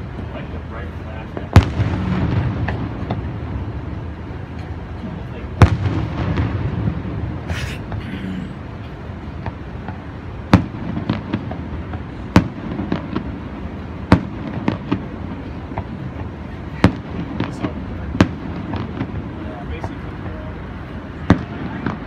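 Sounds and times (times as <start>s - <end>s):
low background noise: 0.0s - 22.0s
distant fireworks bangs: 1.1s - 8.0s, 8.6s - 22.0s.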